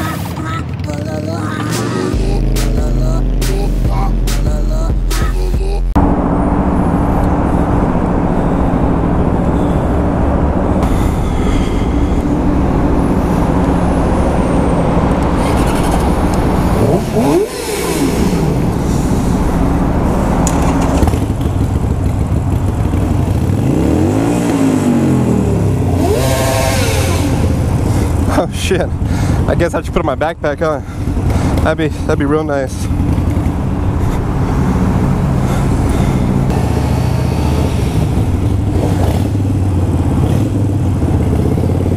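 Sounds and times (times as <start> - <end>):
motorcycle engines revving: 0.0 - 4.4, 6.0 - 41.9
motorcycle idling: 7.4 - 41.9.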